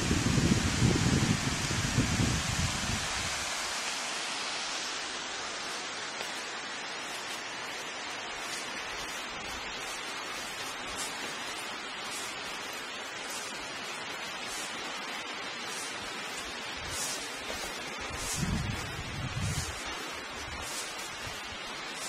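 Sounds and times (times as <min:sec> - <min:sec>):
river water rushing: 0:01.1 - 0:22.0.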